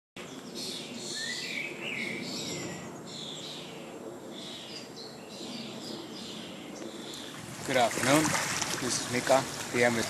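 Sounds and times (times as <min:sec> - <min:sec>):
songbirds chirping and trilling: 0:00.2 - 0:10.0.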